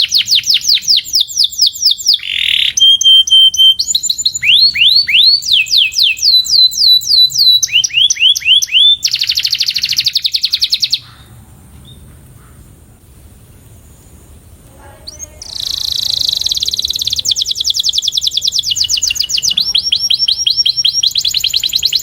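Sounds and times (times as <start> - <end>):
canary singing: 0.0 - 12.1, 14.8 - 22.0.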